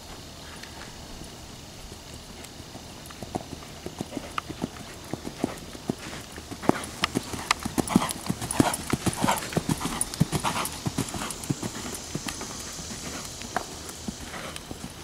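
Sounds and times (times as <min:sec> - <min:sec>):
horse hoofbeats on sand: 0:01.9 - 0:15.0.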